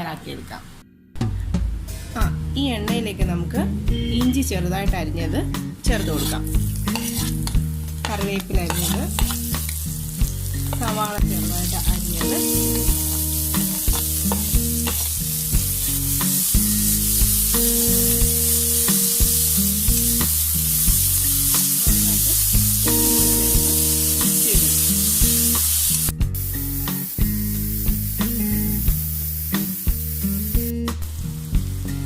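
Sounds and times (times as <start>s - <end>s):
food sizzling in hot oil: 5.8s - 32.0s.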